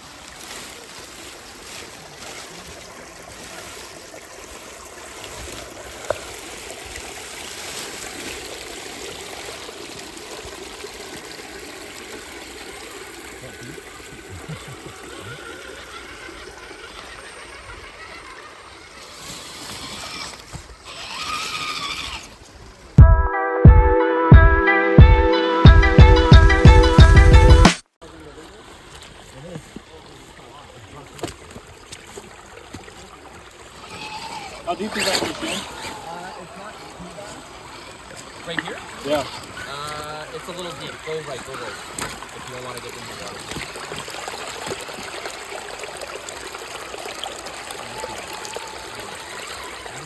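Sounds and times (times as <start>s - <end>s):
stream water trickling: 0.0s - 23.0s, 28.0s - 50.0s.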